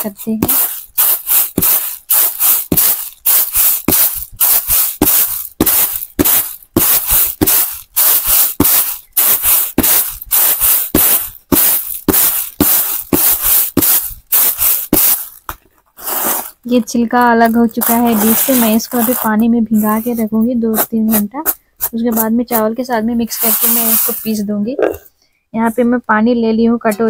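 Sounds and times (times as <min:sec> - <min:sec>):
seeds swishing on bamboo tray: 0:00.2 - 0:15.4, 0:16.0 - 0:24.4.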